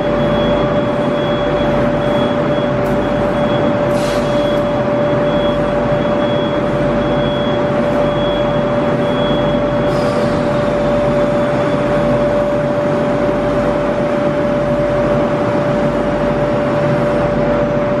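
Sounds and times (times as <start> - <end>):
machine mechanical hum: 0.0 - 18.0
mid-pitched whine: 0.0 - 18.0.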